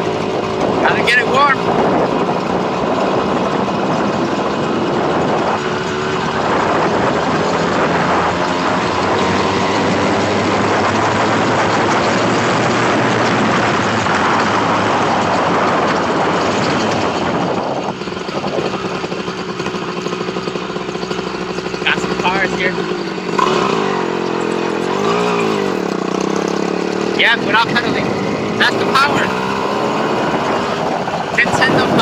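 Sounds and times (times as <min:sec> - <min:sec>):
two-stroke bicycle engine running: 0:00.0 - 0:32.0.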